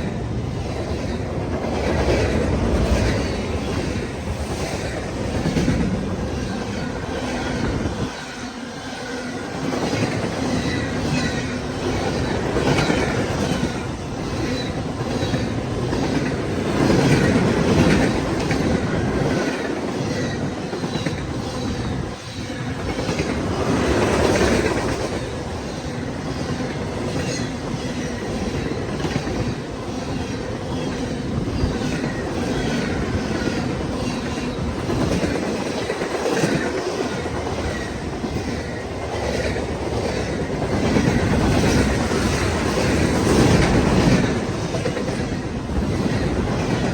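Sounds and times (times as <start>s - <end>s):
train wheels clickety-clack: 0.0s - 46.9s.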